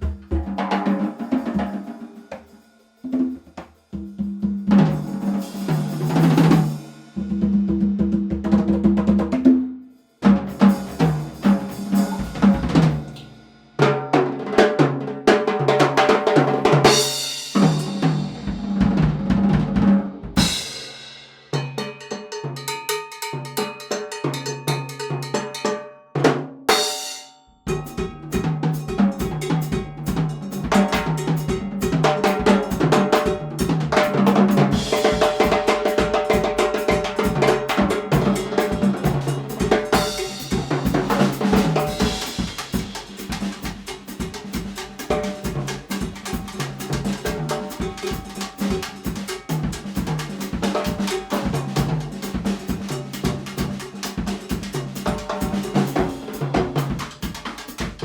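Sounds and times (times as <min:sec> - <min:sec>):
drum kit groove: 0:00.0 - 0:58.0.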